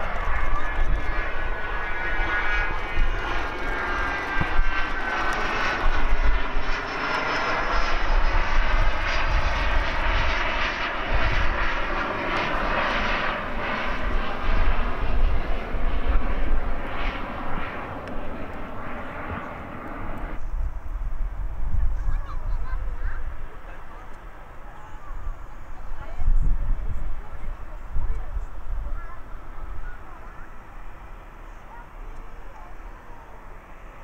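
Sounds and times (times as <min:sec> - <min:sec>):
jet engines climbing: 0:00.0 - 0:34.0.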